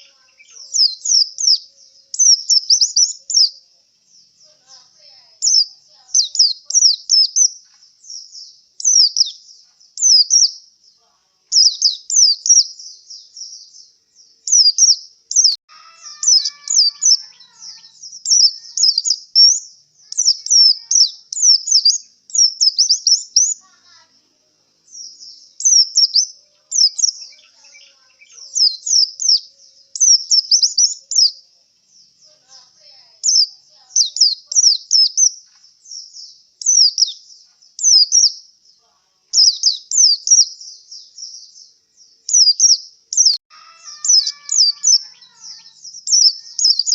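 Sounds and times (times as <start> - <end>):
bird twittering song: 0.0 - 46.9.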